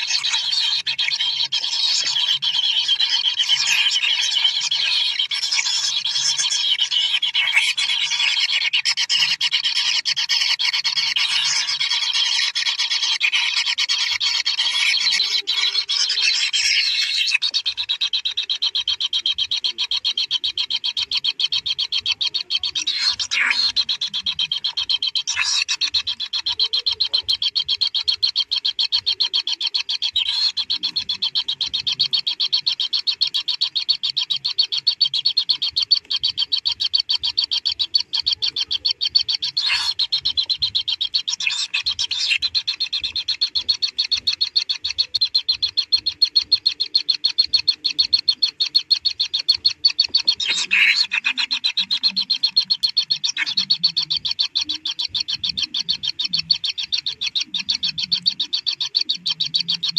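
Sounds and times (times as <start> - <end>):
nestlings begging: 0.0 - 59.9.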